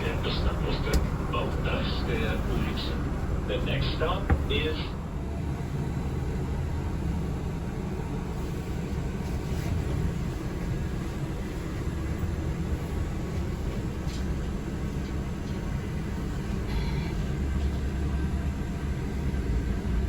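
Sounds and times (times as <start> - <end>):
vehicle cabin rumble and road noise: 0.0 - 20.0.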